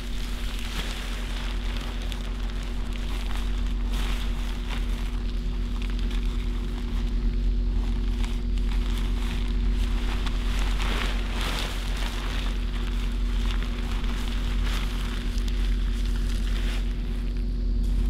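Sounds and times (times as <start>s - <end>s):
steady low hum: 0.0s - 18.0s
tarp rustling: 0.0s - 18.0s.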